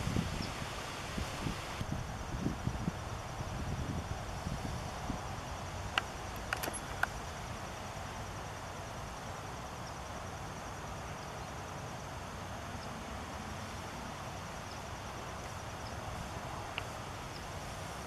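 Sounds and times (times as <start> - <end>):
even hiss: 0.0 - 18.0.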